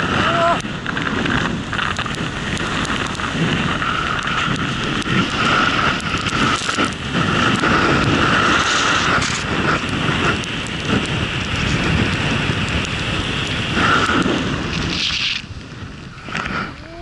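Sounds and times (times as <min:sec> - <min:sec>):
skis hissing through powder snow: 0:00.0 - 0:17.0
snow ticking against camera: 0:00.0 - 0:17.0
wind on microphone: 0:00.0 - 0:17.0.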